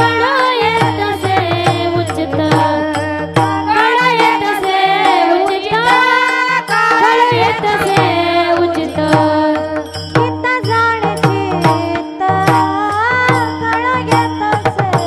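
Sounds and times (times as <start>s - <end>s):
hand drum strokes: 0.0s - 15.0s
woman singing: 0.0s - 15.0s.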